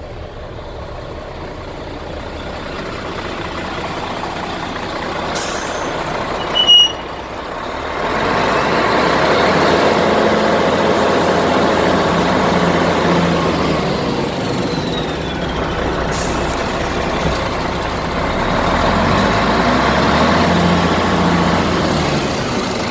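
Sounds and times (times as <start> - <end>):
truck diesel engine running: 0.0 - 22.9.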